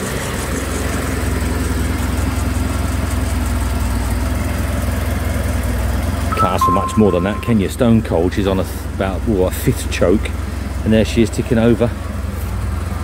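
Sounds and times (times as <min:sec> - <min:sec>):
car engine idling: 0:00.0 - 0:06.3, 0:07.8 - 0:13.0.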